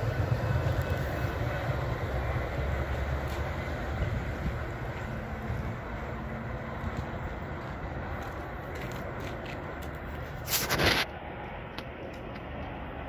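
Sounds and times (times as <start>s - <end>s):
train rumbling away: 0.0s - 13.0s.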